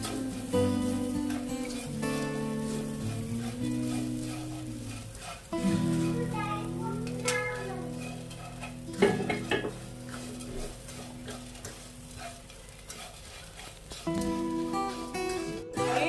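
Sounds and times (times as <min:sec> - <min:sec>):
light sizzle: 0:00.0 - 0:16.0
spatula scraping in a wok: 0:00.0 - 0:16.0.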